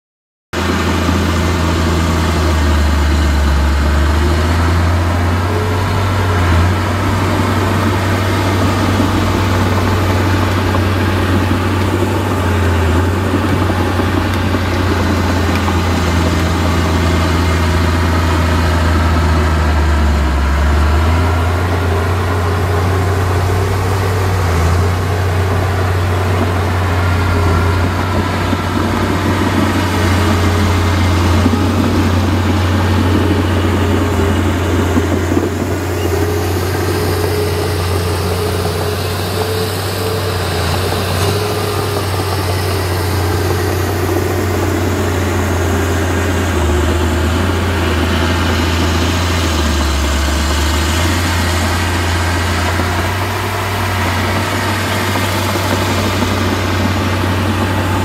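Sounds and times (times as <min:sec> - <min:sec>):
heavy diesel engine droning: 0:00.5 - 0:58.0.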